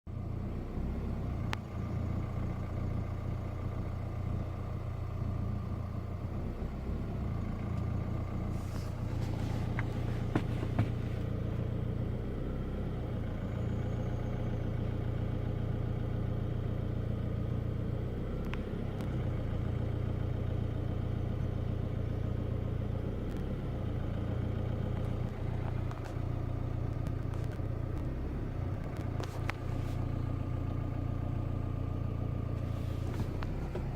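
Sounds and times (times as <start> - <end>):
diesel engine idling roughly: 1.3 - 33.9.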